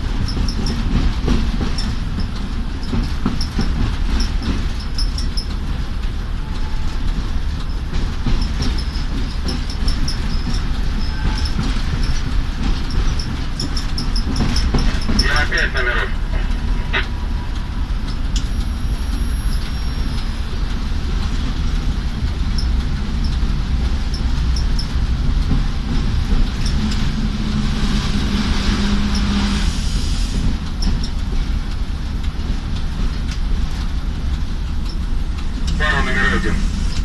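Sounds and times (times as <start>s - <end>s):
locomotive diesel engine rumbling: 0.0s - 37.0s.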